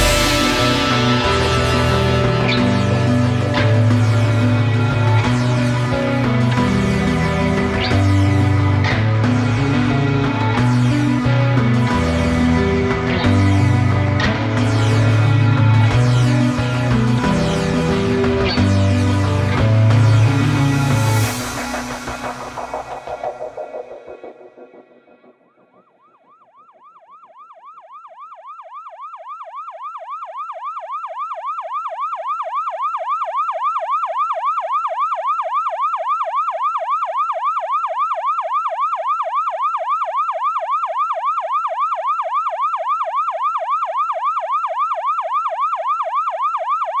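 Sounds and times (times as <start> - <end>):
siren yelping: 0.0 - 47.0.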